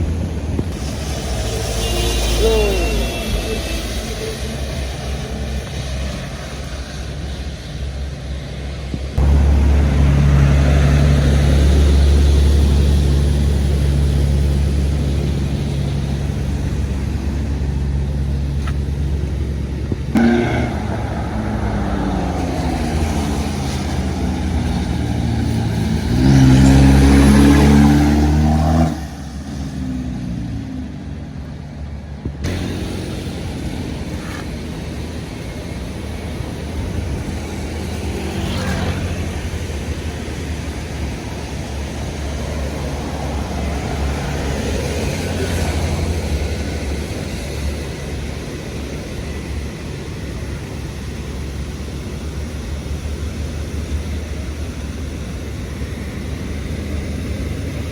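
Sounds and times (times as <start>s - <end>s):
engines revving: 0.0s - 57.9s
heavy vehicle engines passing: 0.0s - 57.9s.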